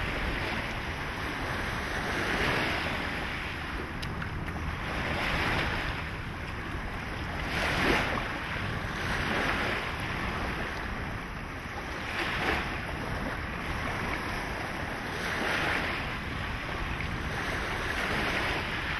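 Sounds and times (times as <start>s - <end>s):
small waves lapping on shore: 0.0s - 18.9s
wave splash: 0.0s - 18.9s.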